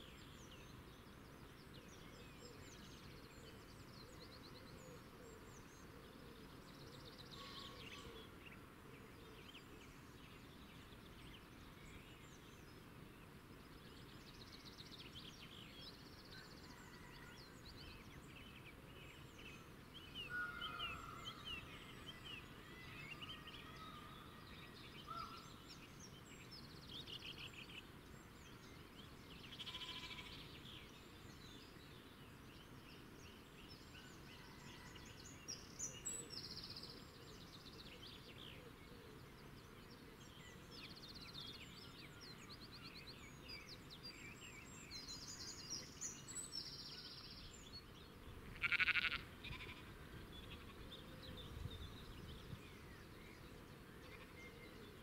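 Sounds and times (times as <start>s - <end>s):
faint background hiss: 0.0s - 55.0s
small birds chirping: 0.0s - 55.0s.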